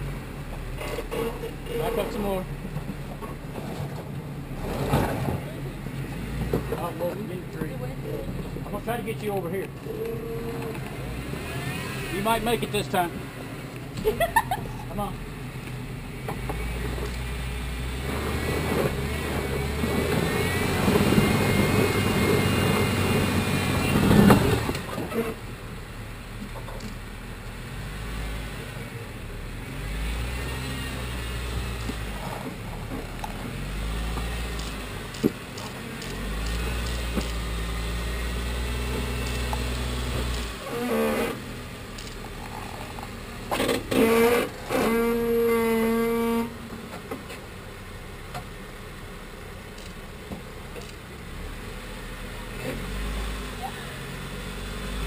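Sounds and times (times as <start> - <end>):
engine revving at low speed: 3.2 - 46.7, 50.7 - 55.0.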